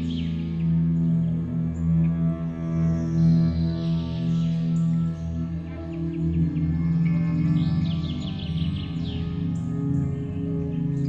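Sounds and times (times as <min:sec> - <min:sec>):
ambient music with low tones: 0:00.0 - 0:11.0.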